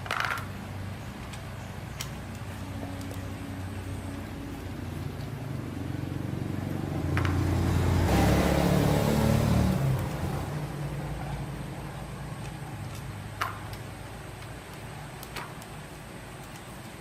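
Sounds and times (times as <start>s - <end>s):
engine running: 0.0s - 16.2s.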